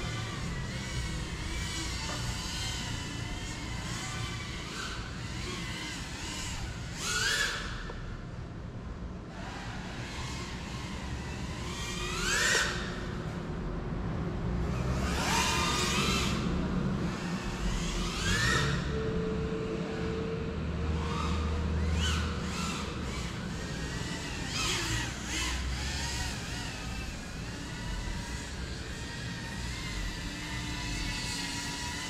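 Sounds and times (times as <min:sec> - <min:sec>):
drone motors whining: 0:00.0 - 0:08.6, 0:09.2 - 0:32.0.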